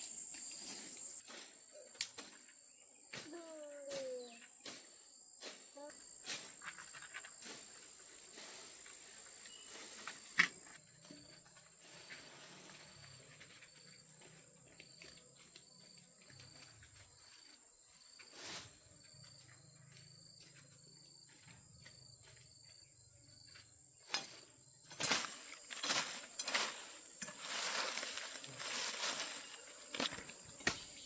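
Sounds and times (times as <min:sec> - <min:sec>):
insects buzzing and chirping: 0:00.0 - 0:31.0.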